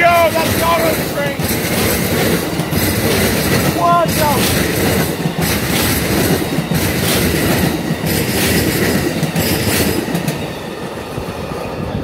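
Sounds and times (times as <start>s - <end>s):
train wheels rumbling and clacking: 0.0s - 12.0s.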